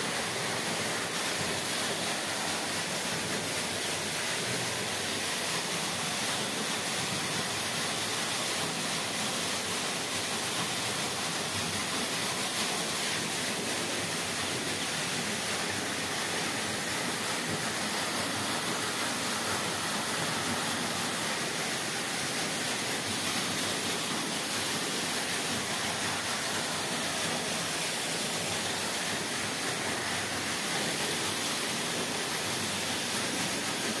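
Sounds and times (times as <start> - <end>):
water splashing into well: 0.0 - 34.0.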